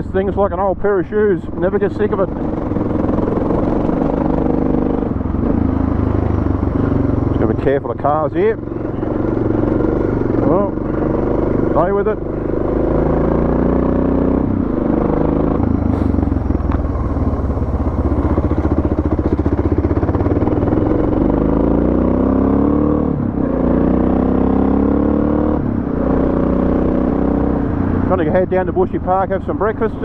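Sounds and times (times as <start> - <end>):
motorcycle engine shifting gears: 1.4 - 28.4.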